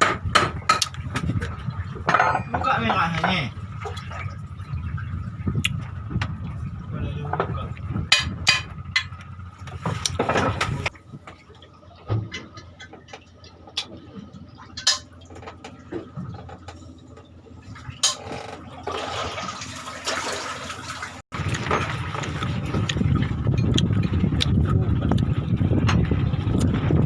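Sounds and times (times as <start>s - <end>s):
water sloshing and splashing: 0.0s - 27.0s.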